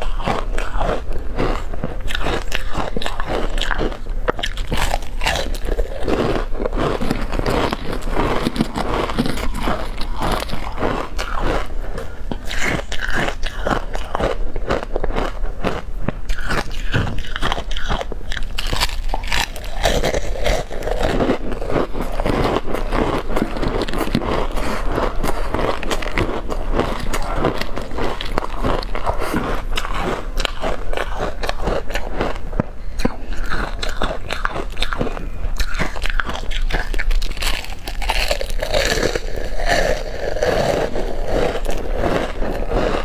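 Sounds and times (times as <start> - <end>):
ice chips crunching: 0.0 - 32.4, 33.1 - 43.0.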